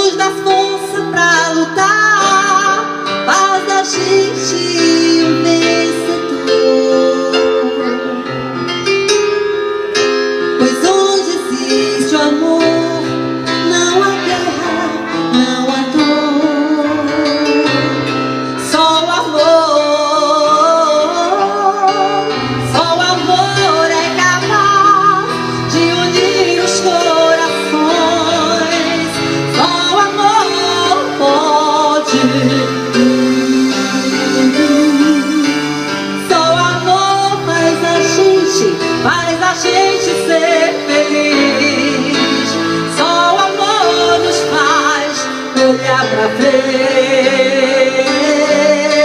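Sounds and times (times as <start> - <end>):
slow song: 0.0 - 49.0.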